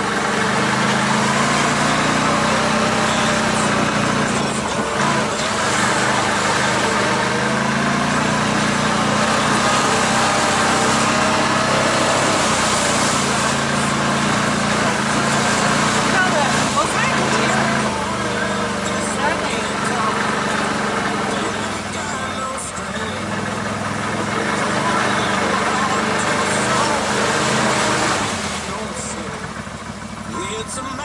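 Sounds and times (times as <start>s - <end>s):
off-road vehicle engine droning: 0.0s - 31.0s.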